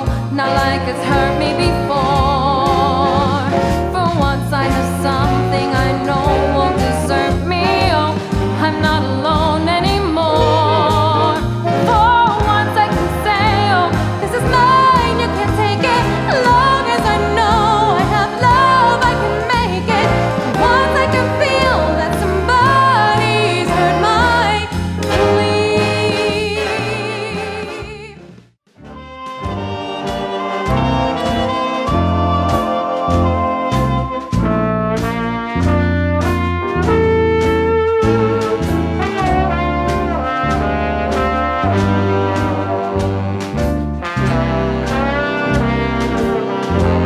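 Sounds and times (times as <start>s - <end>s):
big band swing music: 0.0s - 47.0s.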